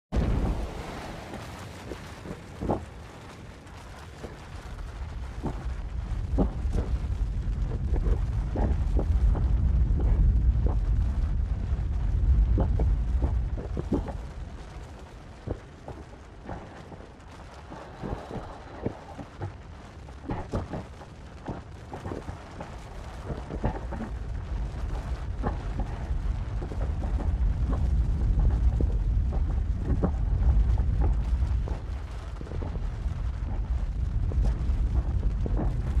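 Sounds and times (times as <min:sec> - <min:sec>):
low rumble: 0:00.0 - 0:36.0
lava crust cracking and popping: 0:00.1 - 0:36.0.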